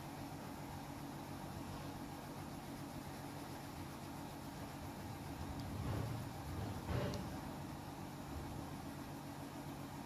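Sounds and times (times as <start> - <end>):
low even hum: 0.0 - 10.0.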